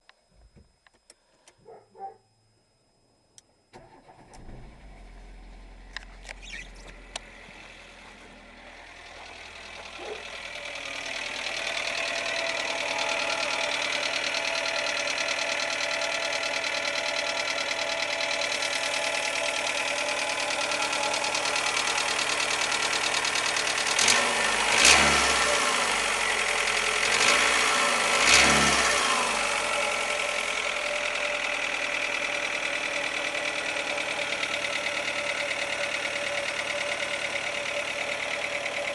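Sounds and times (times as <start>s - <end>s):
car engine running with knock: 5.9s - 38.9s
engine revving: 6.2s - 38.9s.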